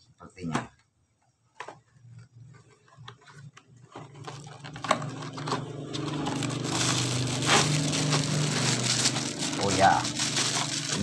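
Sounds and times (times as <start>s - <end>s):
plastic wrapping crinkling: 1.8s - 11.0s.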